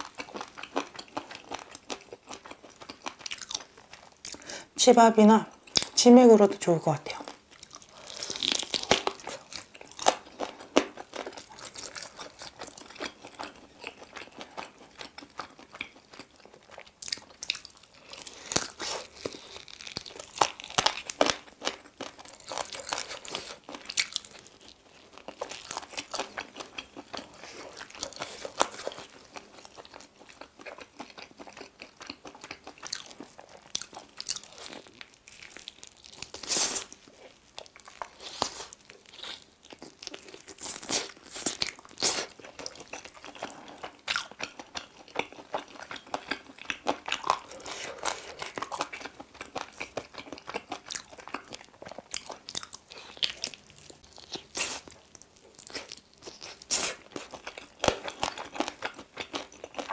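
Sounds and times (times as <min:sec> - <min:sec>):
person biting and chewing: 0:00.0 - 0:04.5, 0:07.3 - 0:59.9.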